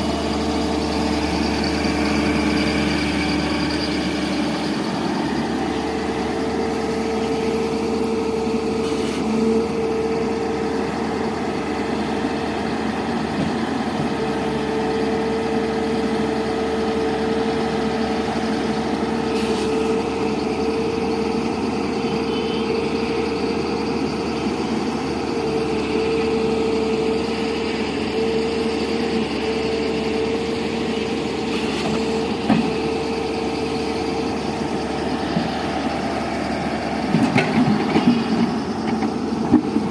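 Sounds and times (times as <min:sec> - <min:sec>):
hydraulic whine: 0:00.0 - 0:15.6, 0:17.8 - 0:39.9
excavator diesel engine running: 0:00.0 - 0:39.9.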